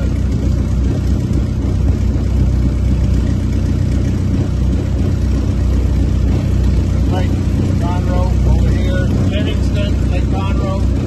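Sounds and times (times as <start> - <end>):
aircraft engine running: 0.0 - 11.0.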